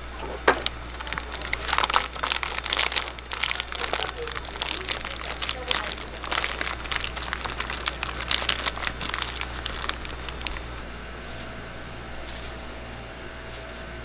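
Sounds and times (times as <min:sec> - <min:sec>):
steady low hum: 0:00.0 - 0:14.0
plastic packaging crinkling: 0:00.2 - 0:11.6.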